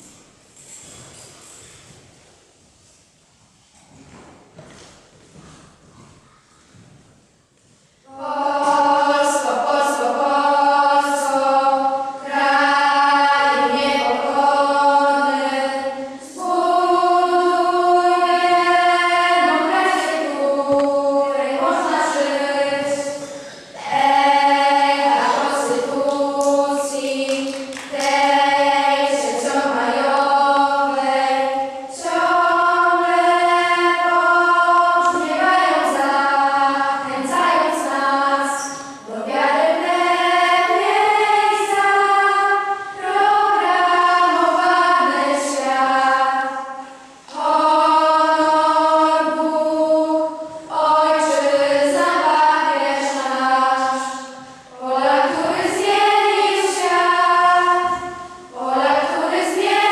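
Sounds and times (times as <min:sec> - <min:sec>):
girls choir singing: 0:08.0 - 0:59.9.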